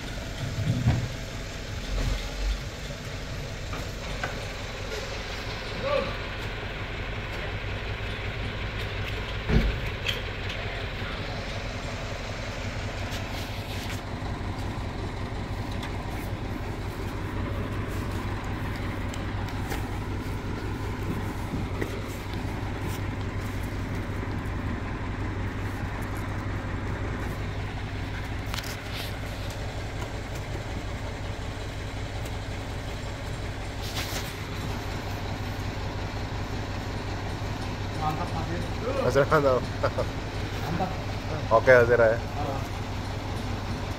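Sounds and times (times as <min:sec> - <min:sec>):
diesel engine humming: 0:00.0 - 0:43.9.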